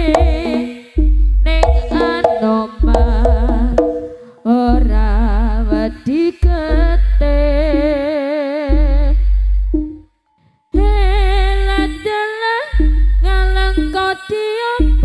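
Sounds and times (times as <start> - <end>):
ornamented melody over loud bass: 0.0 - 10.0, 10.8 - 12.1, 12.8 - 14.1.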